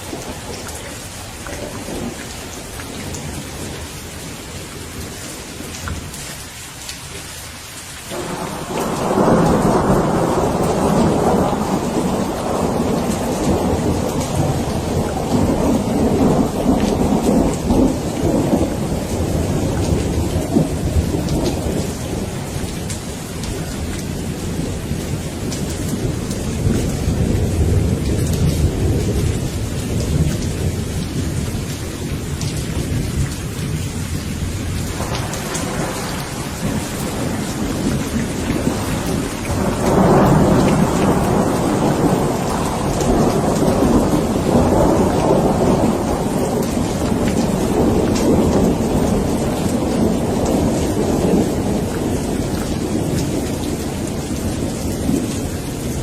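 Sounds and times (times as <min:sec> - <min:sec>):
rolling thunder: 0:00.0 - 0:06.2, 0:08.1 - 0:56.0
steady rain: 0:00.0 - 0:56.0.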